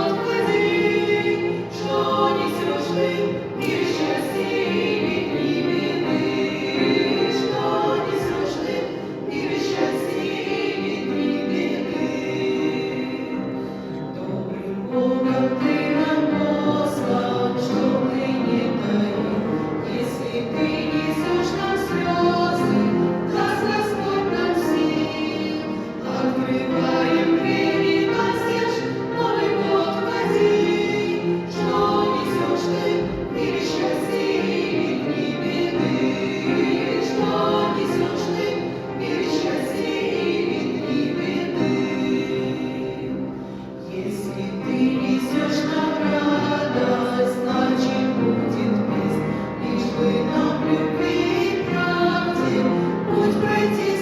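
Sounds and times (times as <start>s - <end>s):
women's choir singing: 0.0s - 54.0s.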